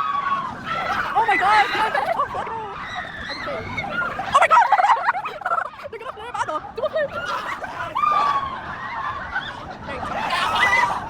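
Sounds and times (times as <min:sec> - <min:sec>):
people laughing and shrieking: 0:00.0 - 0:11.0.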